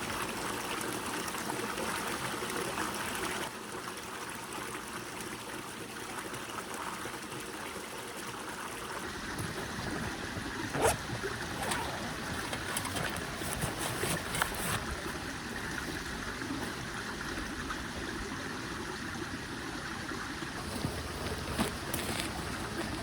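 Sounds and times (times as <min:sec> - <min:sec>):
stream babbling over stones: 0:00.0 - 0:23.0.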